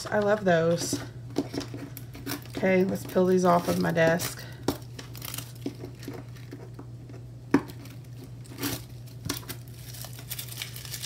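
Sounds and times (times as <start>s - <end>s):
tape crinkling and rustling: 0.0s - 11.0s.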